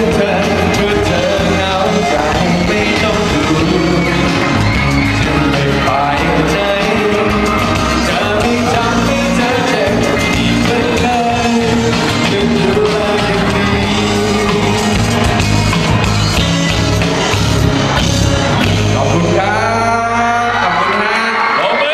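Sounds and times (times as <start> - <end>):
man singing into a microphone: 0.0 - 15.4, 18.9 - 21.9
amplified backing music: 0.0 - 21.9.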